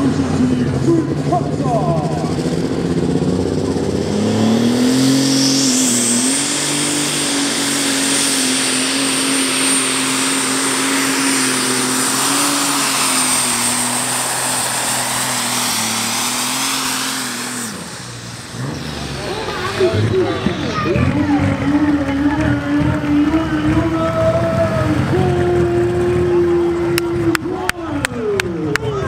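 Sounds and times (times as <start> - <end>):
tractor engine at full power: 0.0 - 29.0.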